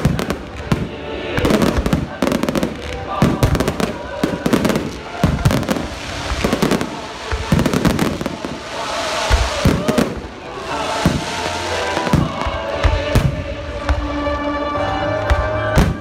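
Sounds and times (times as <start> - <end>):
crackle of bursting stars: 0.0 - 14.1.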